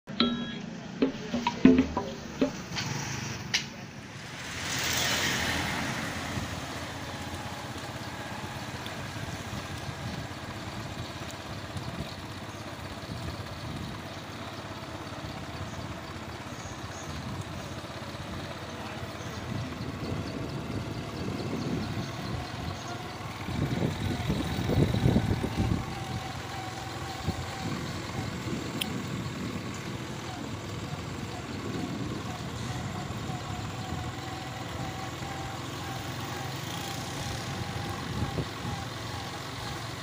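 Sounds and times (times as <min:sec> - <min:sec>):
road and traffic noise: 0:00.0 - 0:40.0
vehicle engine running: 0:00.1 - 0:40.0.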